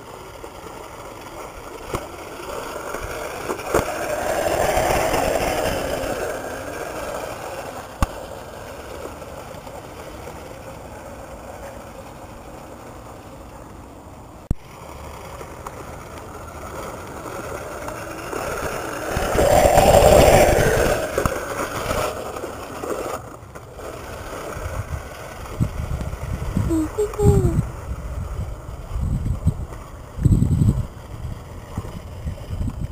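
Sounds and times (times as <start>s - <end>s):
electric scooter rolling on dirt: 0.0s - 32.9s.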